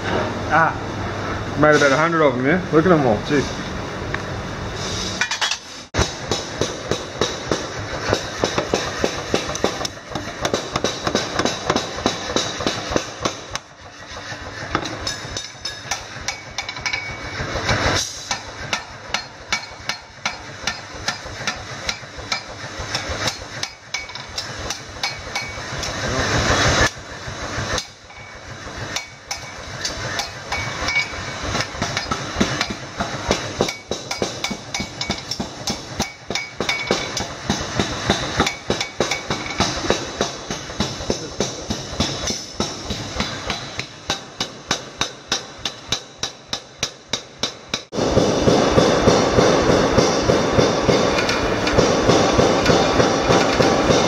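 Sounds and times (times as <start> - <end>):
hammer striking blade on anvil: 5.2 - 13.7, 14.7 - 26.0, 27.7 - 54.0.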